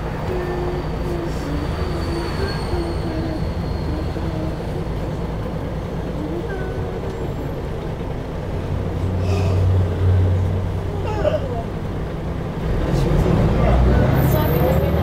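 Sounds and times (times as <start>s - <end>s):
bus cabin noise: 0.0s - 15.0s
bus engine droning: 0.0s - 15.0s.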